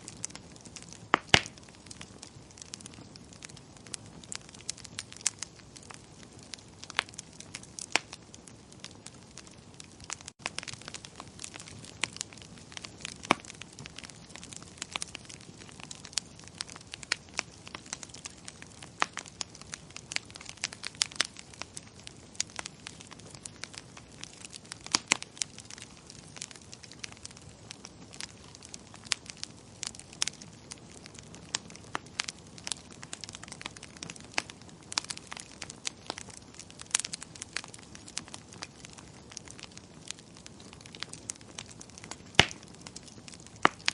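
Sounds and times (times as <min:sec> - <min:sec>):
wood fire crackling in fireplace: 0:00.0 - 0:43.9.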